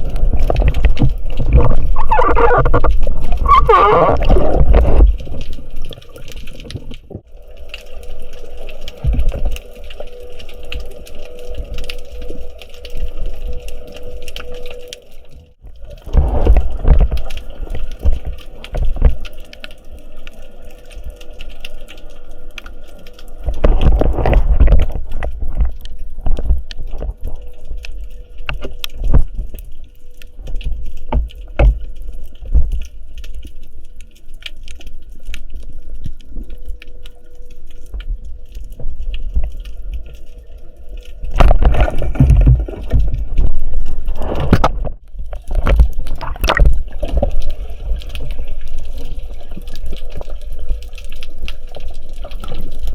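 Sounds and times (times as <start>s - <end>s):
water sloshing and bubbling: 0.0s - 52.9s.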